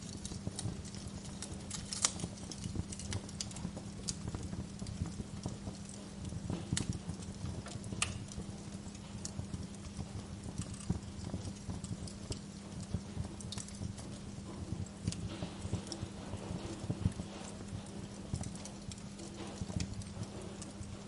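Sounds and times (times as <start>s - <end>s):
low steady hum: 0.0s - 21.0s
wood fire crackling: 0.0s - 21.0s.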